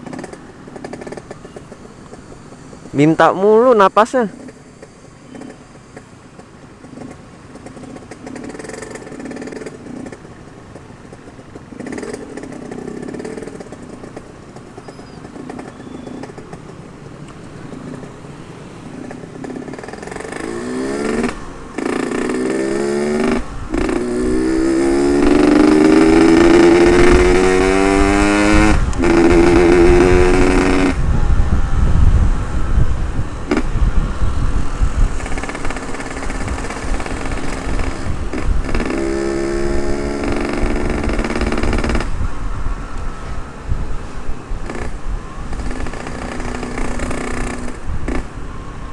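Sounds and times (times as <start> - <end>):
low wind rumble: 0.0 - 48.9
two-stroke motorcycle revving: 0.0 - 48.9.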